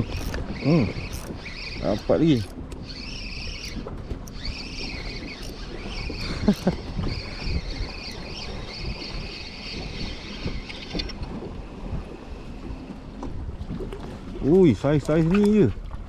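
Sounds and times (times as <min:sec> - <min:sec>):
water moving around kayak: 0:00.0 - 0:16.0
wind on microphone: 0:00.0 - 0:16.0.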